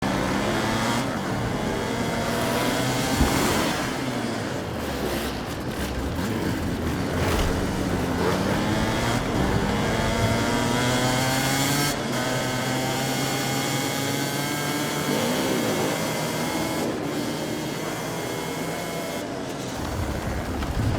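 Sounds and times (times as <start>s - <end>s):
motorcycle engines revving: 0.0s - 20.9s.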